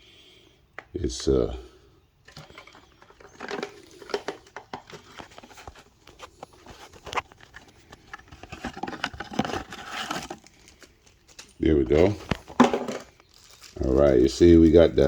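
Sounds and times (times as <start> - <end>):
packaging rustling: 2.2 - 15.0.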